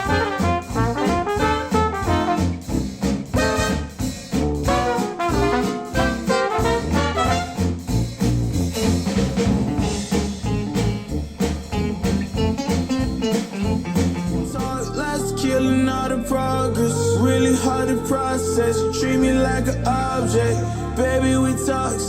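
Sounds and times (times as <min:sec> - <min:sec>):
brass-led jazzy music: 0:00.0 - 0:22.0.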